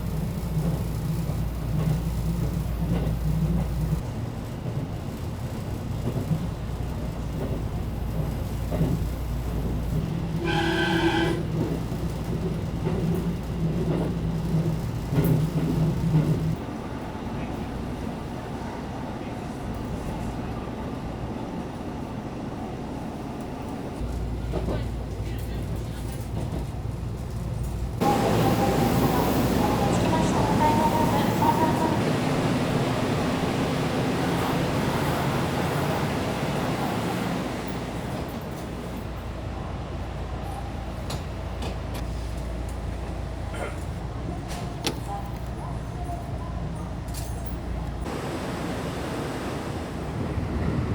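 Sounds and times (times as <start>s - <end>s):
train rumble inside carriage: 0.0s - 50.9s.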